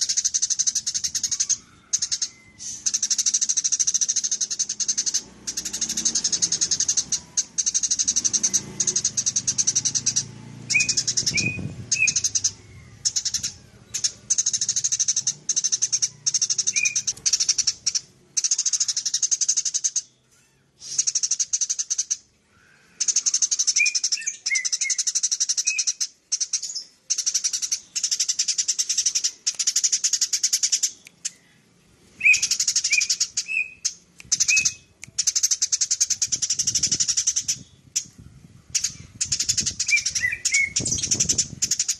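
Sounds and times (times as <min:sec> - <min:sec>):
sparrow chirping: 0:00.0 - 0:41.9.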